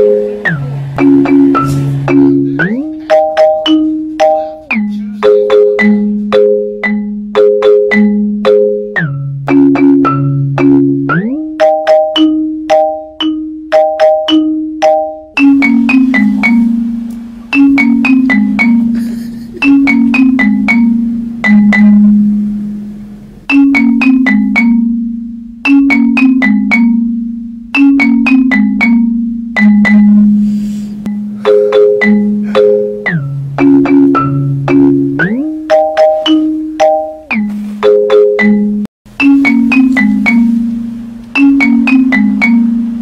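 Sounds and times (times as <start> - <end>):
mallet percussion music: 0.0 - 43.0.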